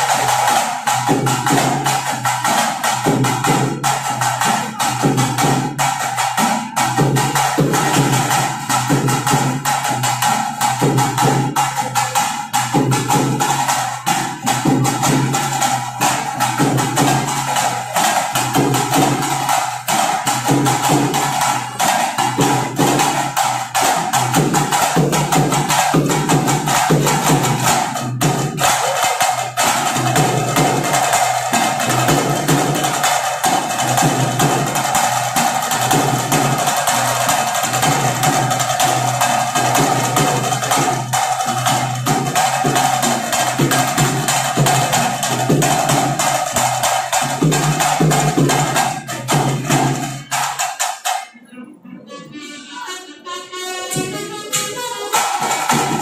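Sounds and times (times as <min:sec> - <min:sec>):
drums beating: 0:00.0 - 0:56.0.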